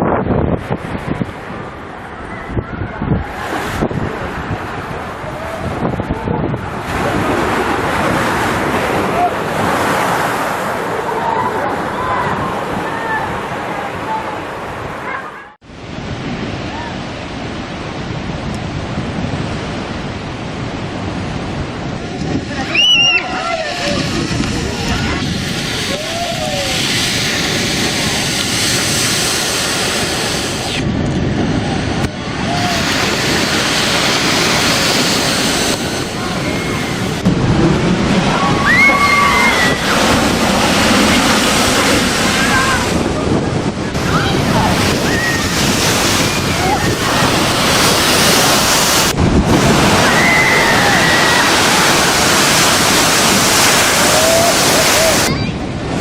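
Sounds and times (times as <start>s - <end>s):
storm surf breaking: 0.0s - 56.0s
waves crashing: 0.0s - 56.0s
wind on microphone: 0.0s - 56.0s.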